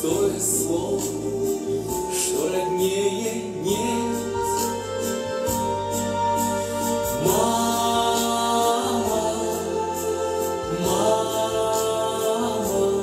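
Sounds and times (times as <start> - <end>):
choir-like vocal notes: 0.0 - 13.0
light steady beat: 0.0 - 13.0.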